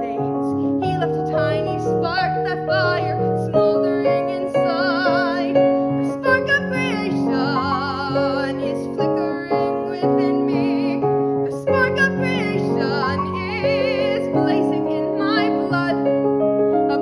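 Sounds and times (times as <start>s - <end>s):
piano accompaniment: 0.0s - 17.0s
woman singing: 0.0s - 17.0s.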